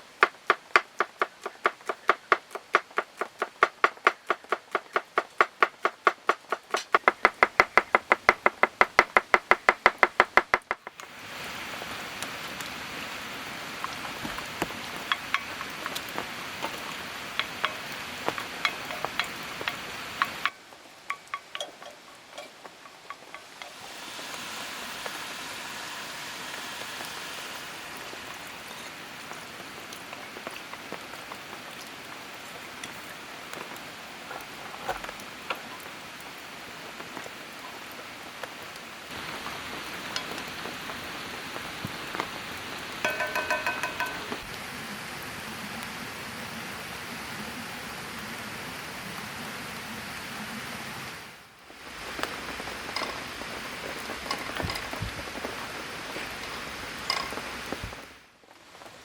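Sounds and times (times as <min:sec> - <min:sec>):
steady hiss with ticks and pops: 0:00.0 - 0:59.0.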